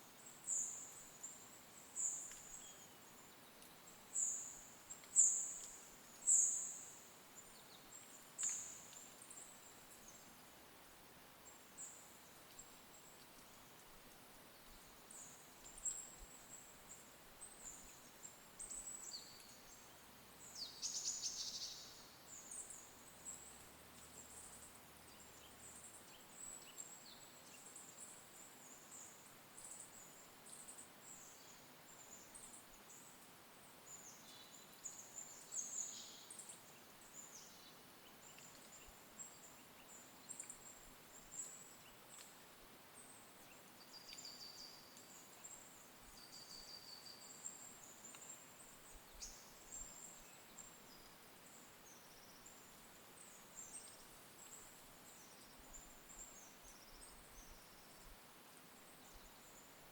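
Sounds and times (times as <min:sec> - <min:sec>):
small birds chirping: 0:00.2 - 0:10.5, 0:11.4 - 0:33.3, 0:33.9 - 0:59.9.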